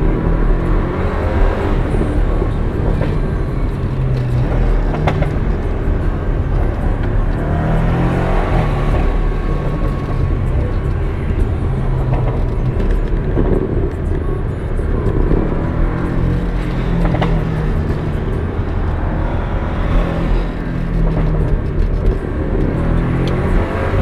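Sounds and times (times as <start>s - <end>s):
car engine: 0.0s - 24.0s
road noise: 0.0s - 24.0s.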